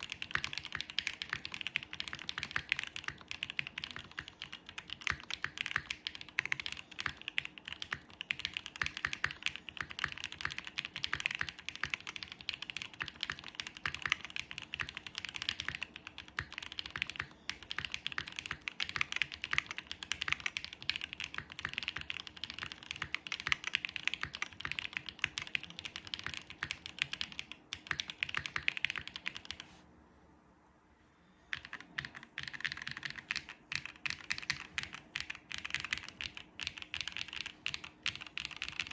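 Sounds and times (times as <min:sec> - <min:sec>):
mechanical keyboard typing: 0:00.0 - 0:29.8, 0:31.5 - 0:38.9.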